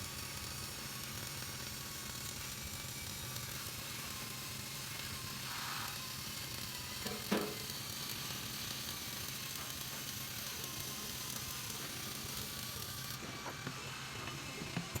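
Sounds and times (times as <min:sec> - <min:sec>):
welding arc crackling hiss: 0:00.0 - 0:15.0.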